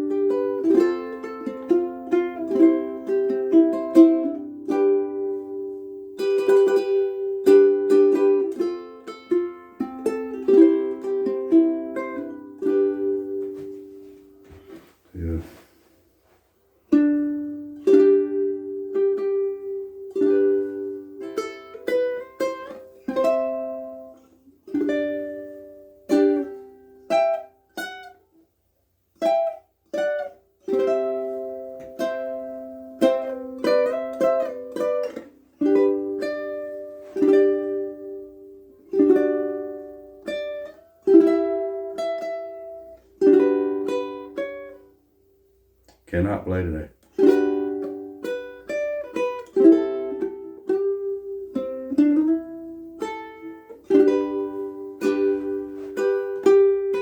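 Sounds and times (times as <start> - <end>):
ukulele strummed chords: 0.0 - 15.6, 16.9 - 28.4, 29.1 - 57.0.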